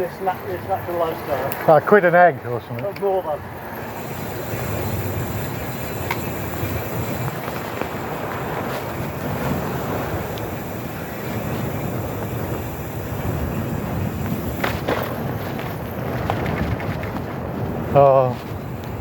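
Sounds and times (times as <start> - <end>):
wind and bicycle tyre noise: 0.0 - 19.0.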